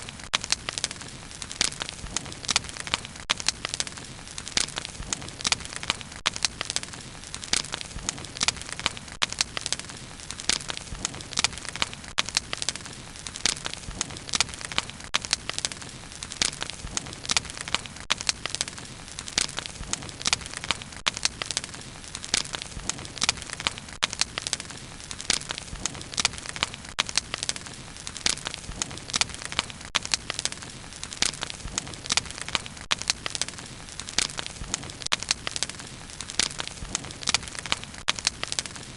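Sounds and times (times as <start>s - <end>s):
fire crackles and pops: 0.0s - 38.9s
flames rumbling: 0.0s - 38.9s.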